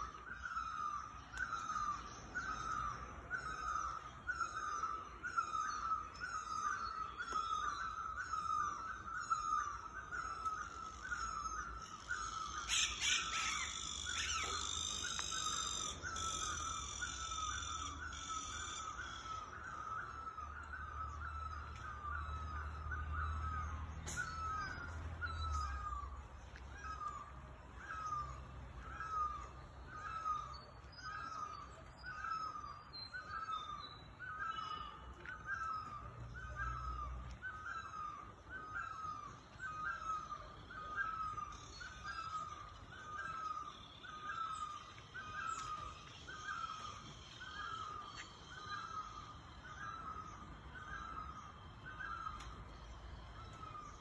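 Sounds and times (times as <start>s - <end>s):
harsh bird calls: 0.0s - 54.0s.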